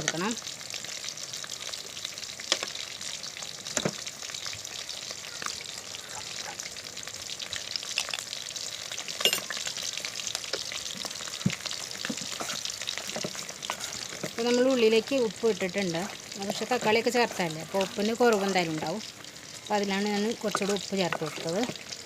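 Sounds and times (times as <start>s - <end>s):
masala sizzling in hot oil: 0.0s - 22.0s.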